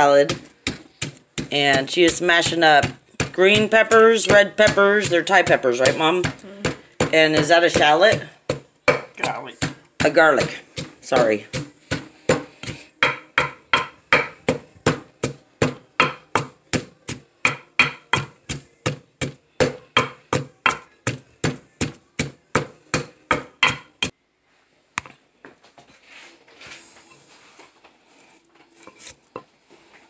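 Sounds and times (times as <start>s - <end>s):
wooden pestle pounding in mortar: 0.0s - 24.1s.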